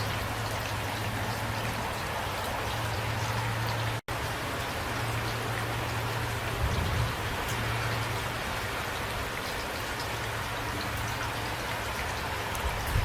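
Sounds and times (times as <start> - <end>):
light rain with drops ticking: 0.0 - 13.0.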